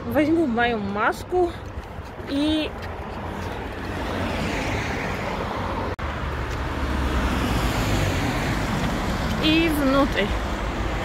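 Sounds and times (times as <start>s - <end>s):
cars driving past: 1.1s - 11.0s.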